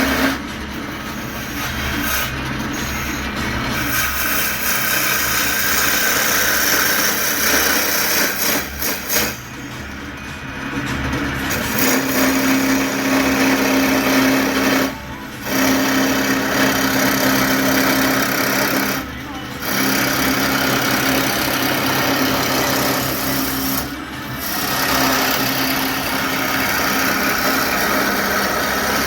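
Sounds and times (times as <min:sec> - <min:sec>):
wood lathe scraping hiss: 0:00.0 - 0:10.0, 0:10.7 - 0:29.0
steady hum: 0:00.0 - 0:29.0.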